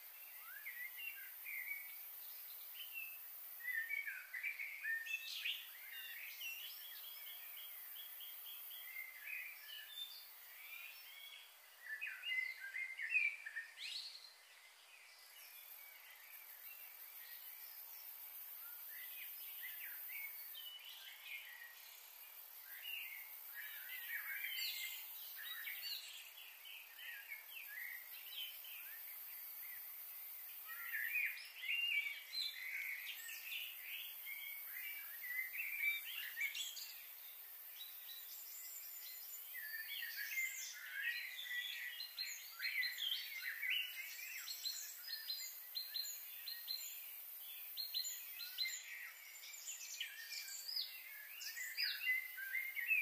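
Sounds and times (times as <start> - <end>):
steady high hiss: 0.0 - 53.0.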